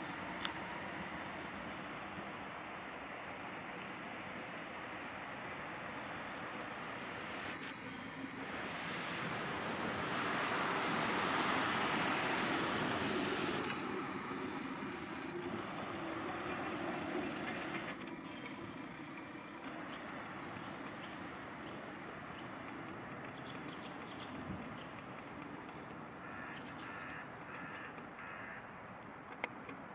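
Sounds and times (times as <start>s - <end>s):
tram rumbling along rails: 0.0s - 28.4s.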